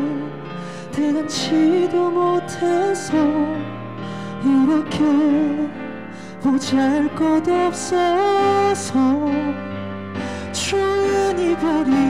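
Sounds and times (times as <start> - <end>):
musical accompaniment: 0.0 - 12.0
person singing ballad: 0.0 - 12.0.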